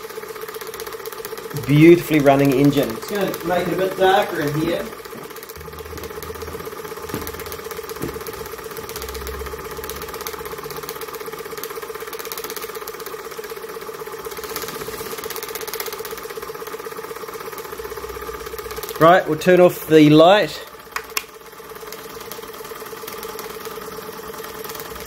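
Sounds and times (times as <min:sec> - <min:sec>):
model steam engine running: 0:00.0 - 0:25.0.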